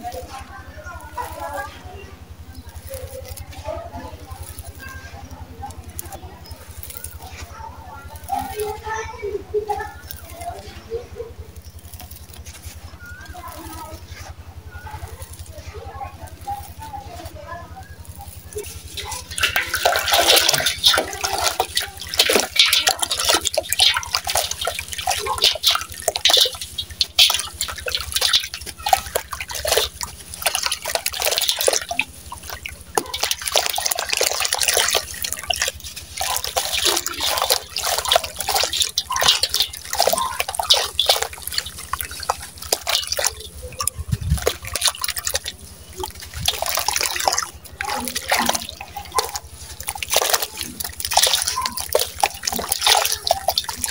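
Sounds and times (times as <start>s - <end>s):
water splashing and dripping: 0.0s - 0.4s, 2.6s - 9.0s, 9.6s - 10.7s, 11.5s - 53.9s.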